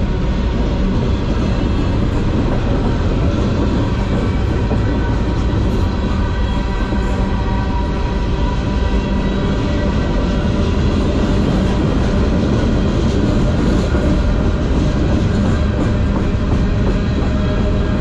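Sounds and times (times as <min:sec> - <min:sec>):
steel wheels on rails: 0:00.0 - 0:18.0.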